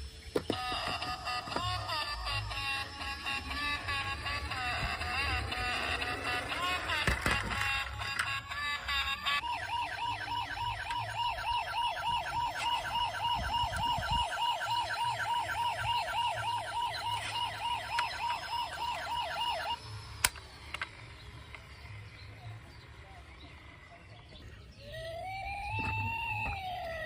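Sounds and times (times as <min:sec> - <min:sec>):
toy electronic siren wailing: 0:00.4 - 0:22.4, 0:24.6 - 0:27.0.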